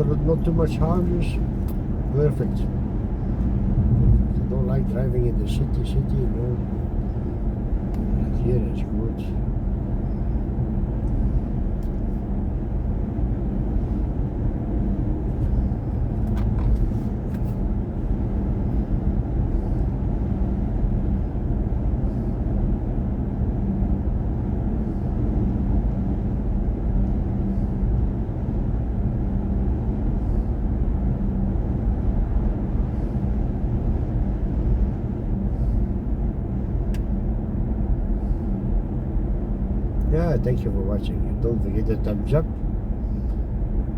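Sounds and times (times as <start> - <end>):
low hum: 0.0 - 43.9
road and tyre noise: 0.0 - 43.9.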